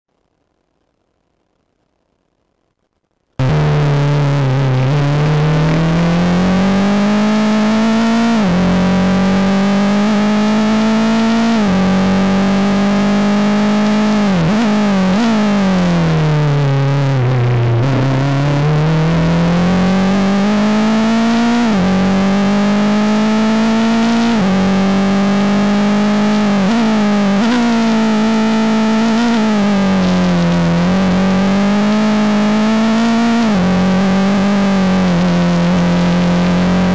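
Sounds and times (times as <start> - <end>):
race car engine revving through gears: 3.4 - 36.9.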